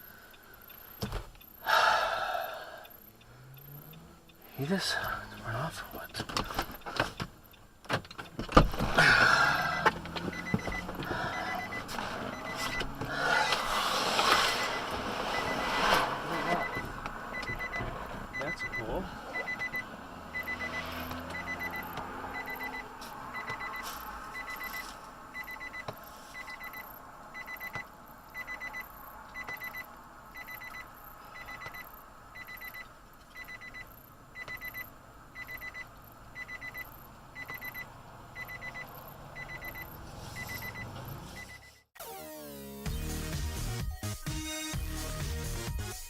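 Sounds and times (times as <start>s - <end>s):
car driving on road: 0.0s - 41.9s.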